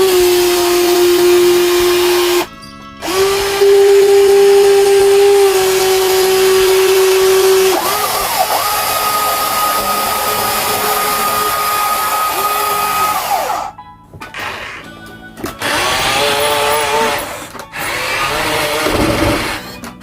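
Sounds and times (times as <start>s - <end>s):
toy electric motor whining: 0.0s - 14.9s, 15.6s - 20.0s.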